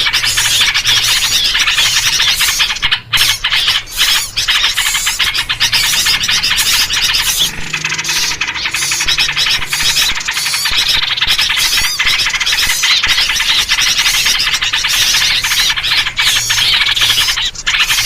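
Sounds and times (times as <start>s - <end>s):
many small songbirds chattering: 0.0s - 18.0s.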